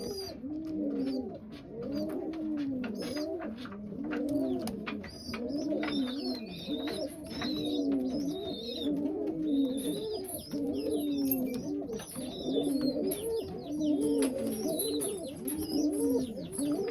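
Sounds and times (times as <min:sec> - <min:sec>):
pigeons cooing: 0:00.0 - 0:16.9.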